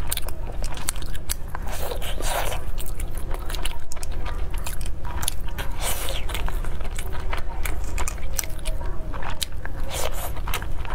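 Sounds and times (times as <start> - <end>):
person biting and chewing: 0.0 - 10.9.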